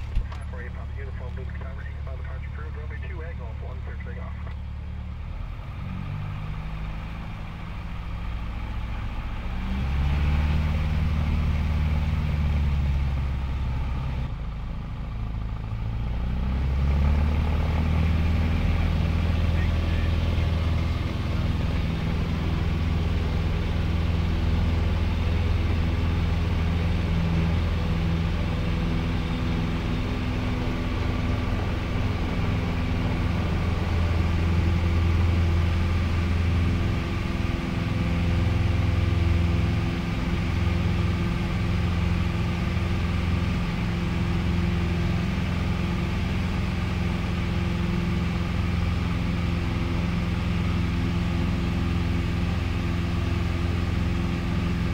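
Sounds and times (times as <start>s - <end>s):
light aircraft engine droning: 0.0s - 54.9s.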